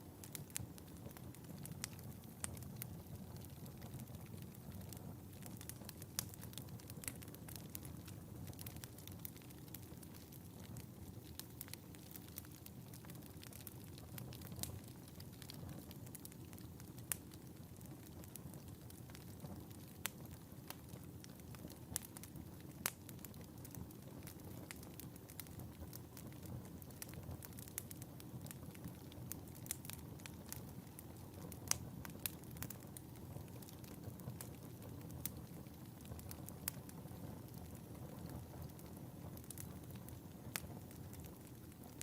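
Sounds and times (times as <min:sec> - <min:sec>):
fire crackling and popping: 0:00.0 - 0:42.0
fire flames rumbling: 0:00.1 - 0:42.0.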